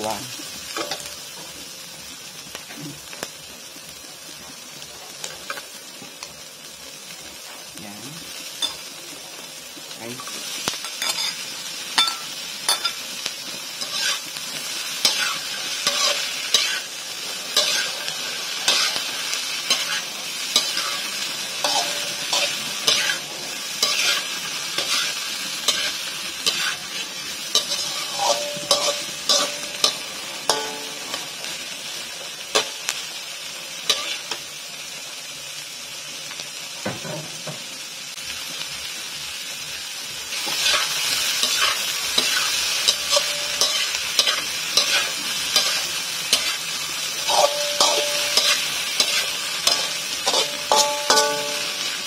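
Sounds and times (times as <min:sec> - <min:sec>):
food sizzling in a hot pan: 0:00.0 - 0:52.0.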